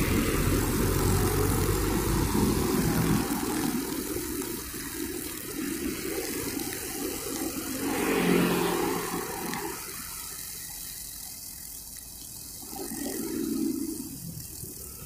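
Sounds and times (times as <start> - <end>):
passing road traffic: 0.0 - 15.0
string trimmer cutting grass: 0.0 - 15.0.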